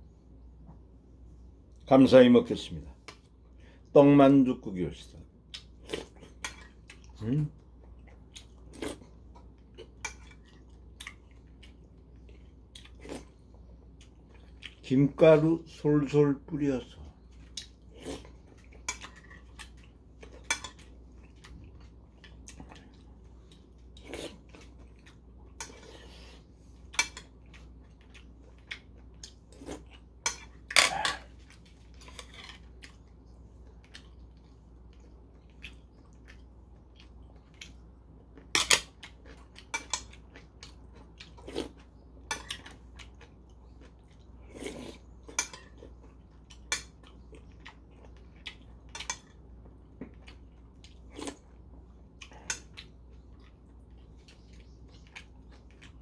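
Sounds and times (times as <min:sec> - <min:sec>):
quiet chewing: 0:05.5 - 0:14.9, 0:17.1 - 0:56.0.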